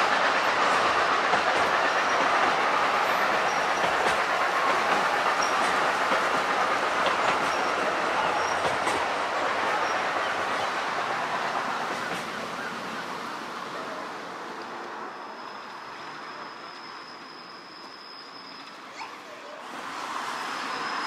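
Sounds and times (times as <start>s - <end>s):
steam train rumble: 0.0s - 18.9s, 19.6s - 21.0s.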